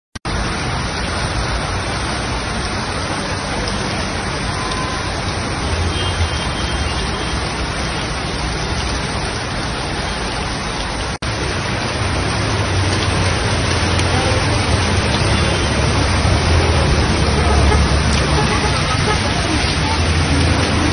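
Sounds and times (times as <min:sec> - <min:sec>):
heavy rain pouring: 0:00.2 - 0:20.9.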